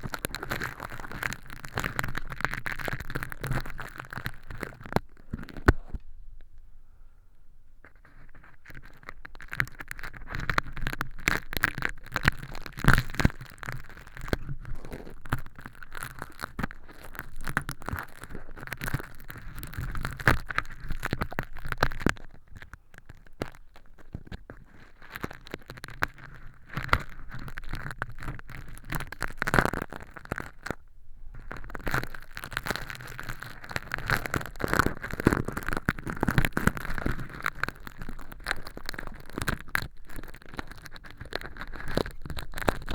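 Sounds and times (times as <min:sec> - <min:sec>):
crinkly film crackling: 0:00.0 - 0:06.5, 0:07.8 - 0:42.9.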